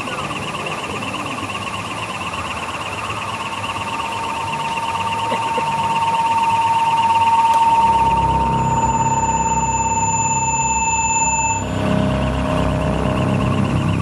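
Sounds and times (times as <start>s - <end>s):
high warbling electronic tone: 0.0s - 14.0s
low electronic drone: 0.0s - 14.0s.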